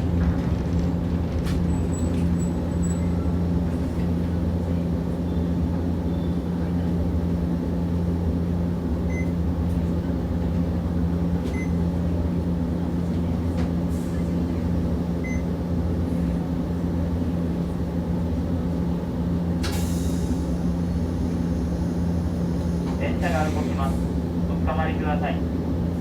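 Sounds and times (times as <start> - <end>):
tram equipment humming: 0.0 - 26.0.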